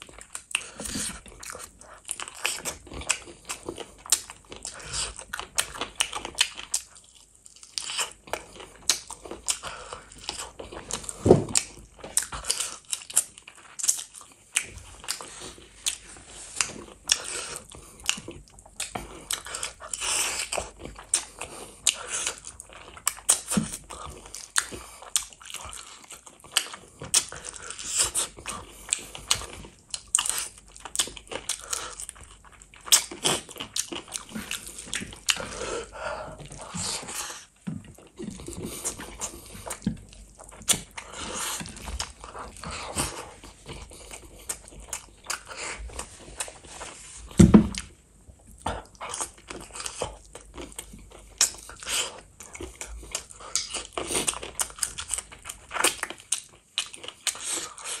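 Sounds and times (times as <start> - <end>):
person chewing wet food: 0.0 - 58.0.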